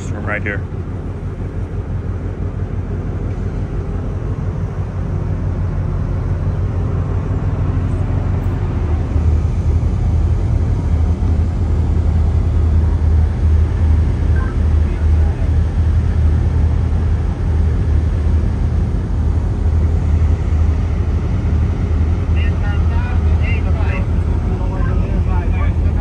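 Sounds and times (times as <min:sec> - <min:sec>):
ship engines rumbling: 0:00.0 - 0:26.0.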